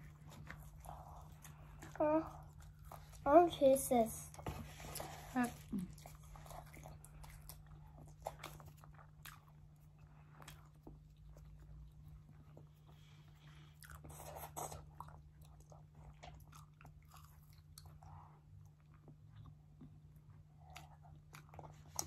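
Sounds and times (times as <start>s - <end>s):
chewing and biting pastry: 0.0s - 3.4s, 4.2s - 22.0s.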